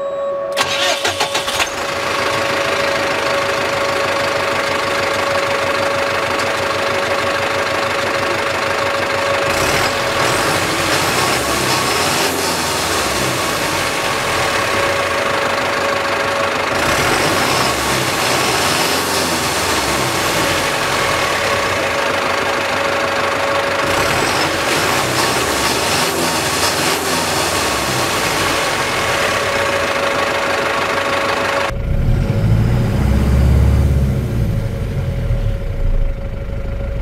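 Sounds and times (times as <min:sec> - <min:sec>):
diesel engine idling: 0:00.6 - 0:37.0.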